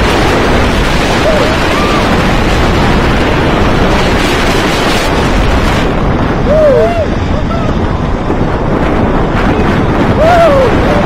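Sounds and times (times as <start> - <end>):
roller coaster train rumbling: 0.0 - 11.0
wind noise on microphone: 0.0 - 11.0.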